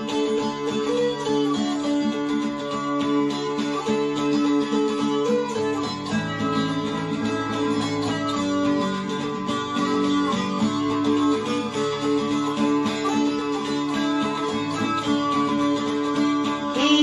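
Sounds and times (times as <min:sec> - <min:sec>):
dulcimer plucked notes: 0:00.0 - 0:17.0.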